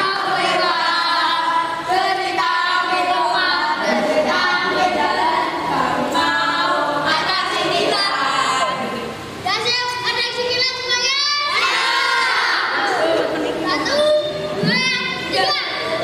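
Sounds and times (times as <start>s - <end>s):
children singing in unison: 0.0s - 9.3s, 10.8s - 16.0s.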